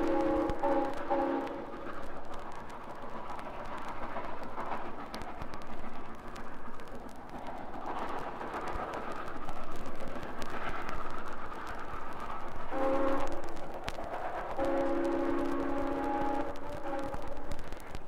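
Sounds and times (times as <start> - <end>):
steam train rumbling: 0.0 - 18.0.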